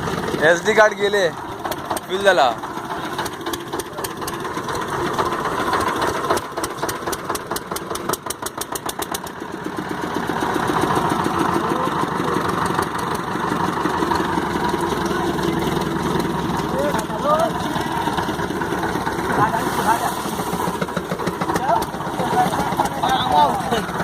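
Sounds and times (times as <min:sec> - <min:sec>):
boat engine knocking: 0:00.0 - 0:24.0.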